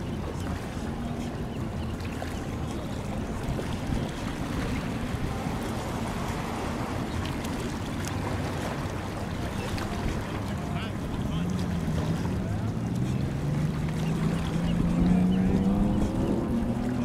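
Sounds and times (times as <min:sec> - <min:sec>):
choppy water: 0:00.0 - 0:17.0
faint boat engine hum: 0:00.0 - 0:17.0
wind: 0:00.0 - 0:17.0.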